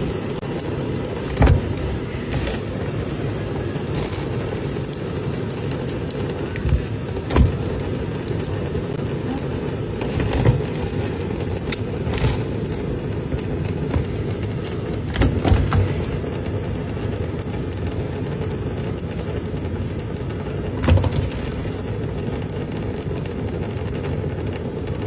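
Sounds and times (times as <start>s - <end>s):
wing flutters: 0.0s - 25.0s.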